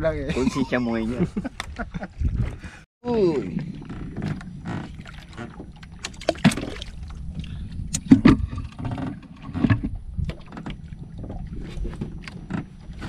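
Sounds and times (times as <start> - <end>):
knocks and thuds in a boat: 1.5 - 13.0
water lapping against hull: 1.6 - 13.0.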